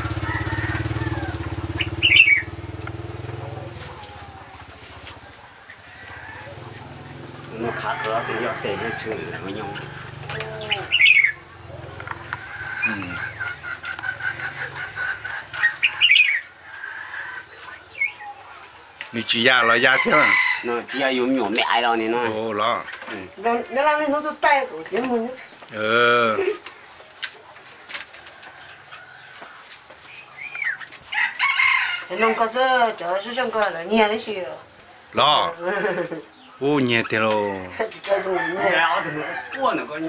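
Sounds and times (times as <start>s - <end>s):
birds calling: 0.0s - 40.0s
songbird chirping: 0.0s - 40.0s.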